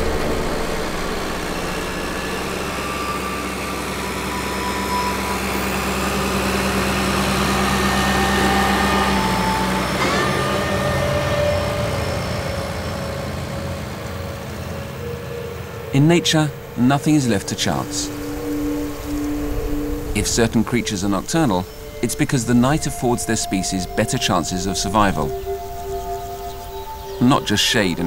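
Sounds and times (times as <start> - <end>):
ambient drone music: 0.0 - 28.0
rising sweep: 0.0 - 28.0.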